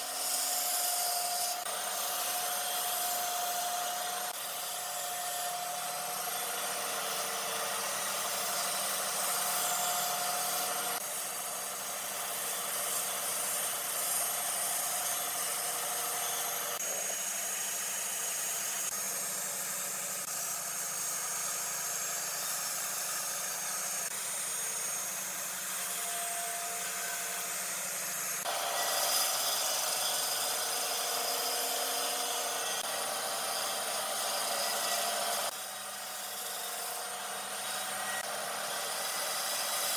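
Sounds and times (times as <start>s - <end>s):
electric power tool rasping wood: 0.0s - 39.9s.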